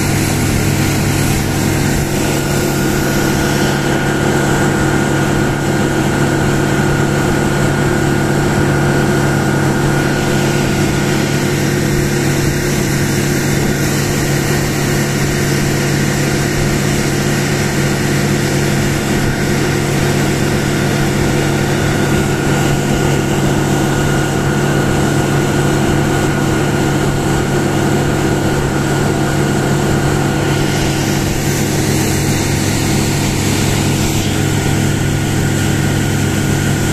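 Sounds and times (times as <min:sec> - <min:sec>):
outboard motor running: 0:00.0 - 0:36.9
water rushing from boat wake: 0:00.0 - 0:36.9.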